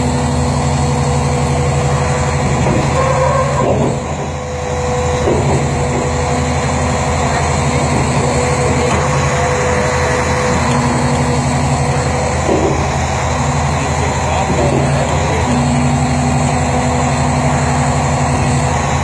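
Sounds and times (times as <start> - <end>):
diesel bulldozer engine idling: 0.0 - 19.0
high-pitched engine whine: 0.0 - 19.0.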